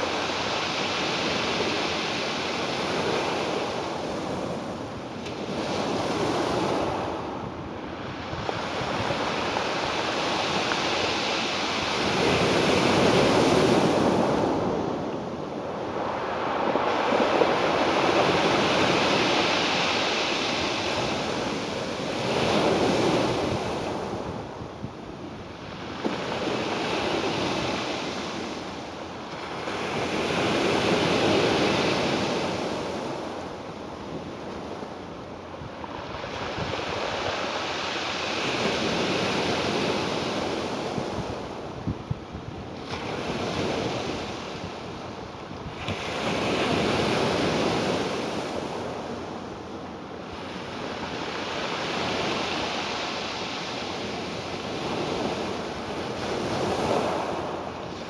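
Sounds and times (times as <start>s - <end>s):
ocean waves breaking: 0.0s - 41.7s, 42.8s - 58.0s.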